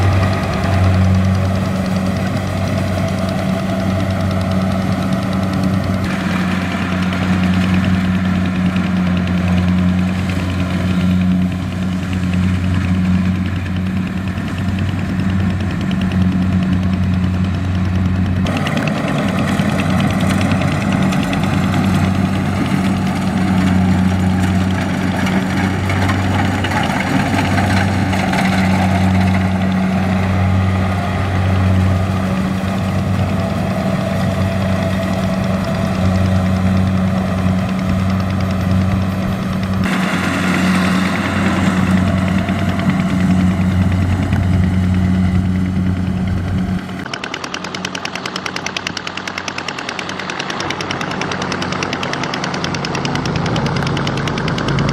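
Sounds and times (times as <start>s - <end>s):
harvesting machine engine running: 0.0s - 54.9s.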